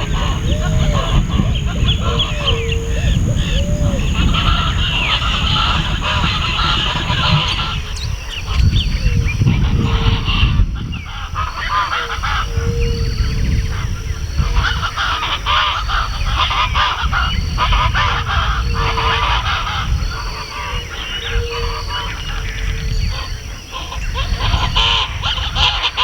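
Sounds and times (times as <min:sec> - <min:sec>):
steady low rumble: 0:00.0 - 0:25.6
chorus of wild birds calling: 0:00.0 - 0:26.0
honking bird calls: 0:00.0 - 0:26.0.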